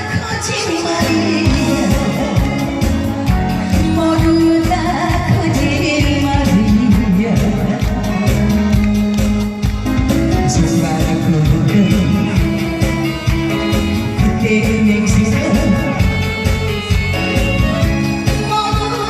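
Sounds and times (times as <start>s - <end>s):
band backing track: 0.0s - 19.0s
person singing: 0.0s - 19.0s.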